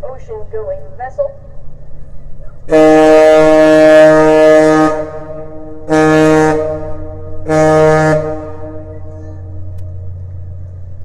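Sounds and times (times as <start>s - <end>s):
ship horn blasts: 2.1s - 11.0s.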